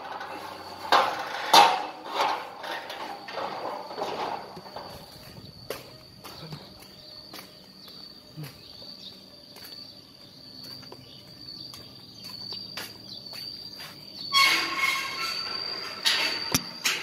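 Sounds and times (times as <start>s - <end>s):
insect droning: 0.0s - 17.0s.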